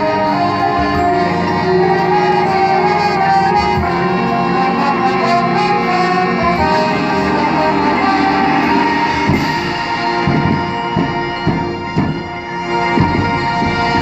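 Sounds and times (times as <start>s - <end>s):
brass section playing chords: 0.0s - 14.0s.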